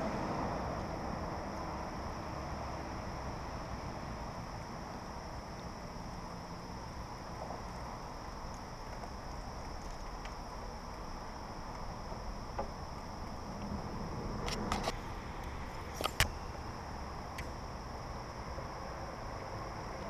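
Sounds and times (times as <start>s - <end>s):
high insect chorus: 0.0s - 20.0s.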